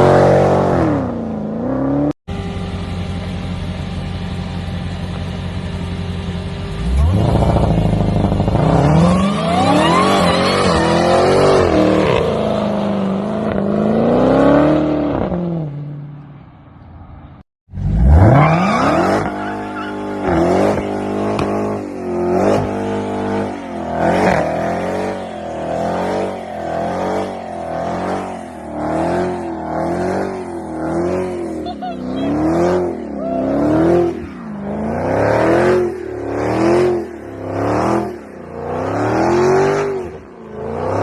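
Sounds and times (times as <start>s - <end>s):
car engine revving: 5.6s - 15.9s, 17.7s - 41.0s.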